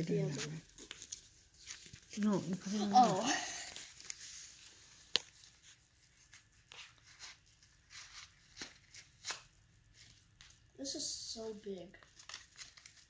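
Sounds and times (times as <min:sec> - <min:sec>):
packaging rustling: 0:00.1 - 0:10.6, 0:12.0 - 0:13.0.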